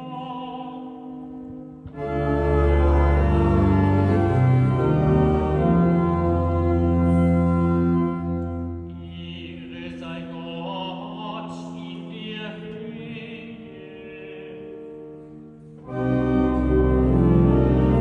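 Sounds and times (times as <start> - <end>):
church pipe organ: 0.0 - 18.0.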